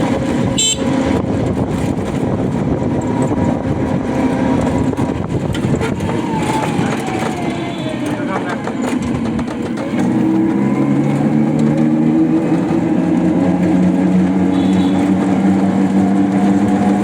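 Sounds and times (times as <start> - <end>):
vehicle mechanical drone: 0.0 - 17.0.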